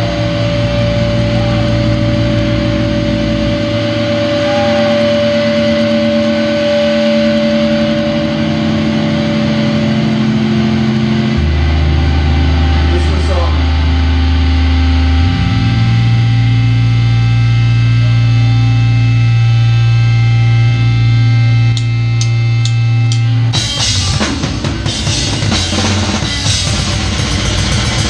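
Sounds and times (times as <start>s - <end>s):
distorted amplifier drone: 0.0s - 28.0s
heavy low tone: 0.0s - 28.0s.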